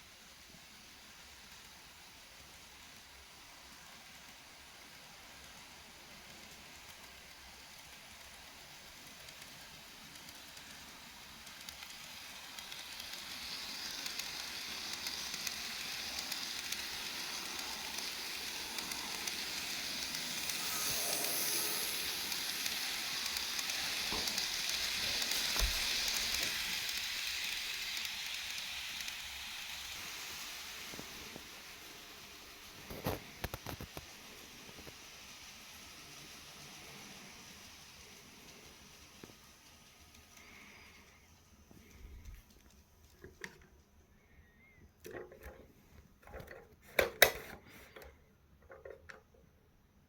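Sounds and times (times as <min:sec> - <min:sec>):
model train running on track: 0:00.0 - 0:45.6.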